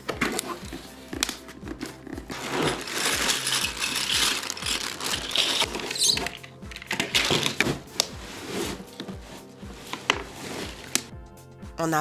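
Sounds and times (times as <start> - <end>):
cardboard and plastic scraping: 0.0 - 11.1
background music: 0.0 - 12.0.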